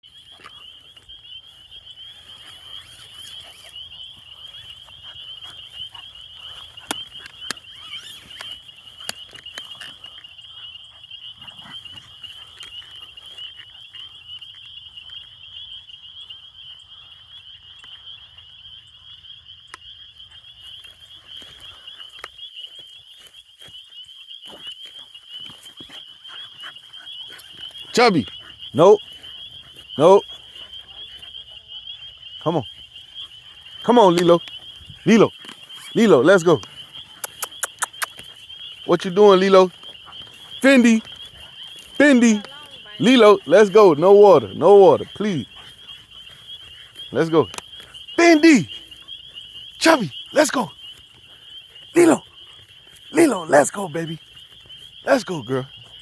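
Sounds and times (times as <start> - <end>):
frogs calling in trills: 0.0 - 56.0.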